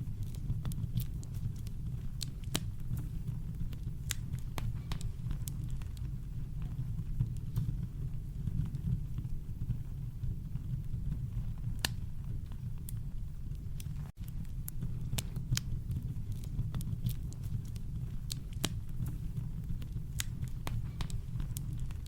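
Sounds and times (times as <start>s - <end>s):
burning wood popping: 0.0s - 22.0s
deep fire rumble: 0.0s - 22.0s.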